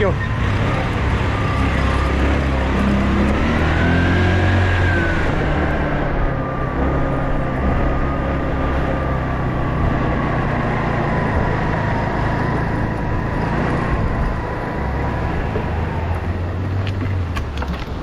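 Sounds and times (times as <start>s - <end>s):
road and wind noise: 0.0s - 18.0s
small motorcycle engine running: 0.0s - 18.0s.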